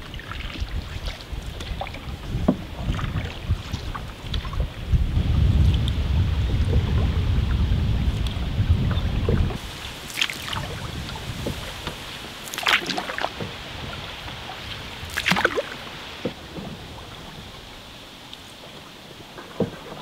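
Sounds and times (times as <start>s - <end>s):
paddle strokes in water: 0.0s - 20.0s
wind on microphone: 0.0s - 20.0s.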